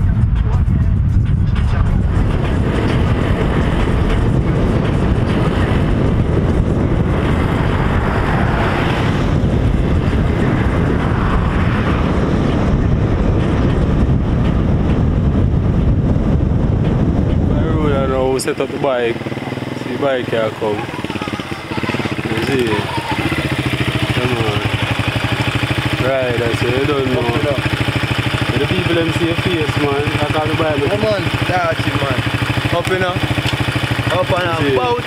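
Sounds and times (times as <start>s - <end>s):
car road noise: 0.0s - 35.0s
wind buffeting microphone: 0.0s - 35.0s.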